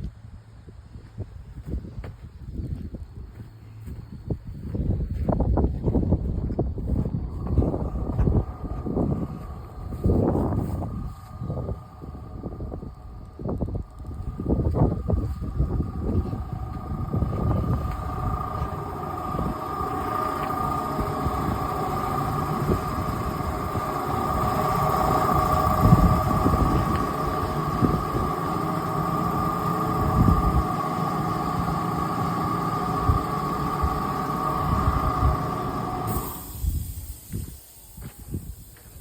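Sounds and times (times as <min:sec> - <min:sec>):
gusty low rumble: 0:00.0 - 0:39.0
machine high whine: 0:06.8 - 0:39.0.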